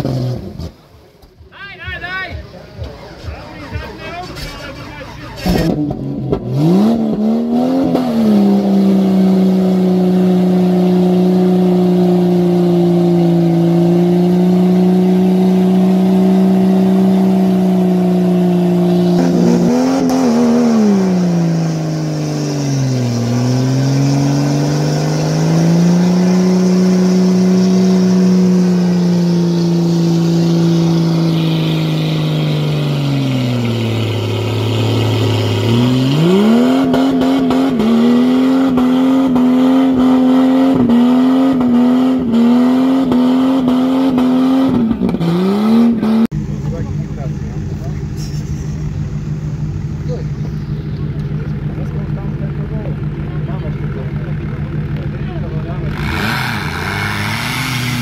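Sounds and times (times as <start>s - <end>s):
engine revving high: 5.4s - 58.0s.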